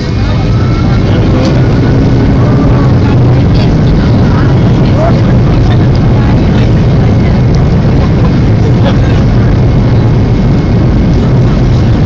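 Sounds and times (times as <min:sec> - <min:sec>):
jet engines from inside cabin: 0:00.0 - 0:12.0.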